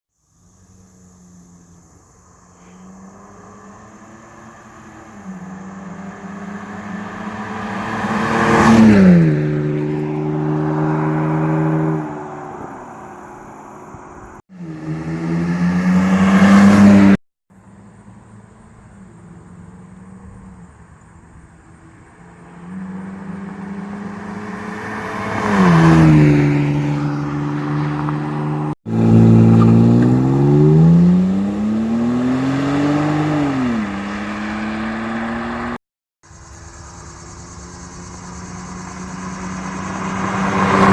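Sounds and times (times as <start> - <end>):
car accelerating and driving past: 0.7 - 35.8, 36.4 - 40.9
car engine revving: 0.8 - 17.2, 21.7 - 35.8, 36.9 - 40.9.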